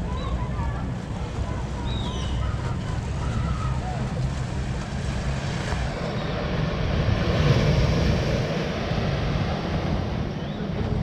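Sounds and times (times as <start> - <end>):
small waves washing onto beach: 0.0 - 11.0
wind buffeting microphone: 0.0 - 11.0.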